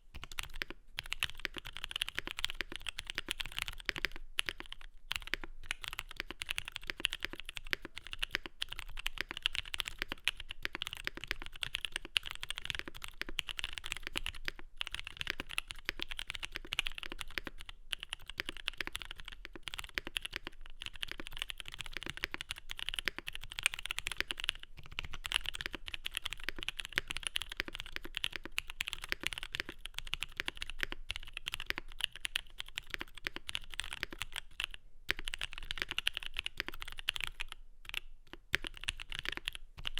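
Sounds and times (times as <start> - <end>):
fast typing on mechanical keyboard: 0.2 - 39.9.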